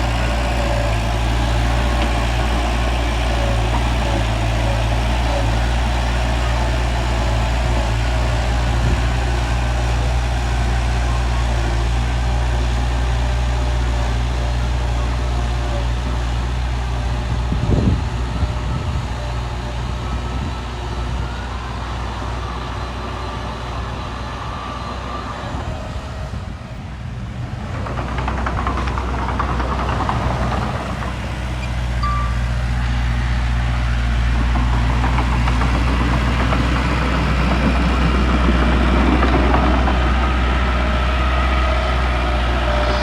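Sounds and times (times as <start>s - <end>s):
diesel machinery engine hum: 0.0s - 43.0s.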